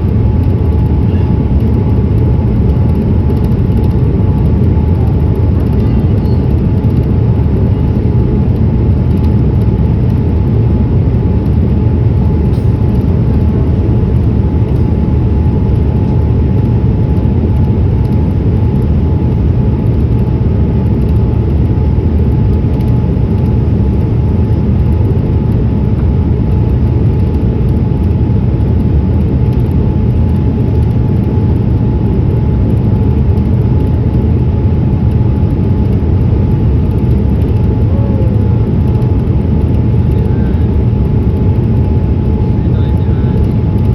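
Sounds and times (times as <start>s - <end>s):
airliner engine roar: 0.0s - 43.9s
faint engine whine: 0.0s - 43.9s.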